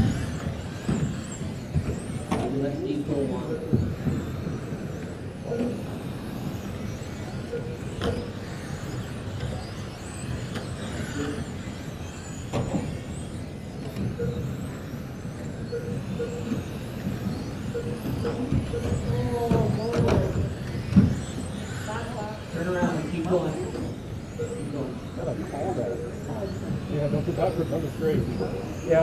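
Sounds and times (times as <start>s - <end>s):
rc car motors whining: 0.0s - 29.0s.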